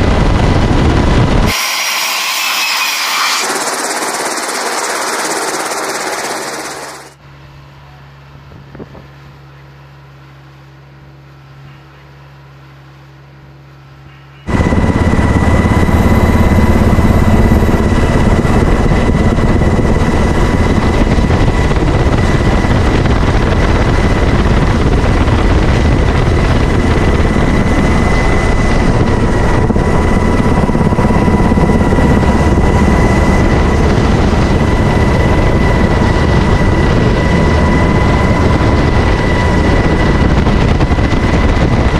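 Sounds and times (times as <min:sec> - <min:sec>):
helicopter noise with high whine: 0:00.0 - 0:07.2, 0:14.2 - 0:41.9.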